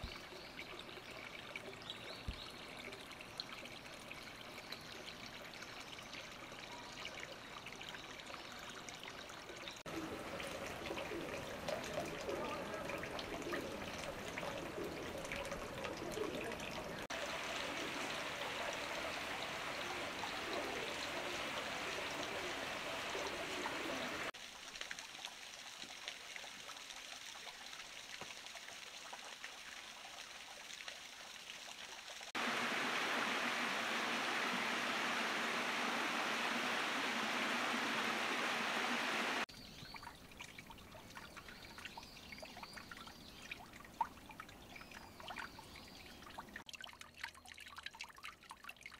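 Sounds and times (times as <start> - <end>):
running water trickling: 0.0 - 48.9.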